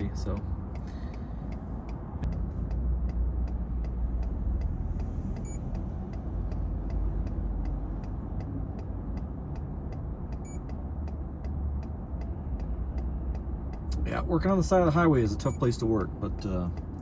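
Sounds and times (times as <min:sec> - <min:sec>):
heavy highway traffic rumble: 0:00.0 - 0:17.0.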